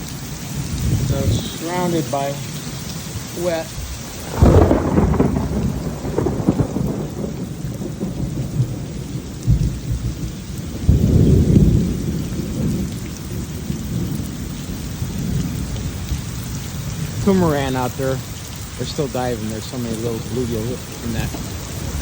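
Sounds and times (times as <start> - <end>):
steady rainfall: 0.0 - 22.0
thunder rumbling: 0.0 - 22.0.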